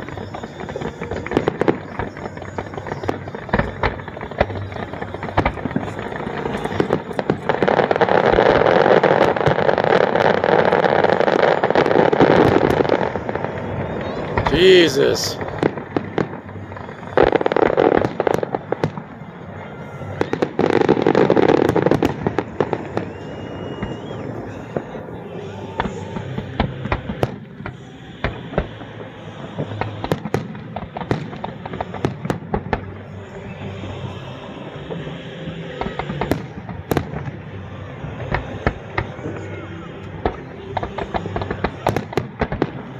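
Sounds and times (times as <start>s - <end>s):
fireworks bangs and cracks: 0.0s - 42.9s
fireworks booming and crackling: 0.0s - 42.9s.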